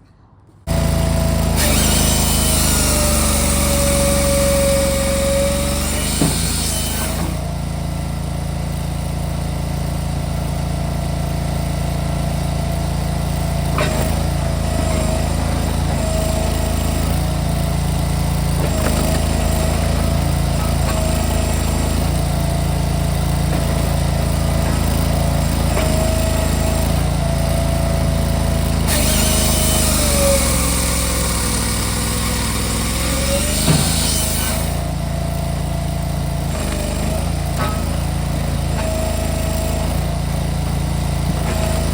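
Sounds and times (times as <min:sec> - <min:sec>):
firewood processor engine running: 0:00.7 - 0:41.9.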